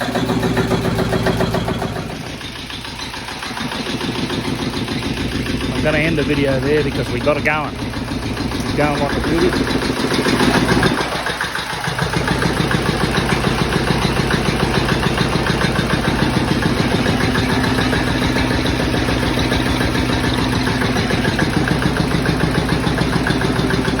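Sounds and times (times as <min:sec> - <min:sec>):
stationary engine running: 0:00.0 - 0:24.0.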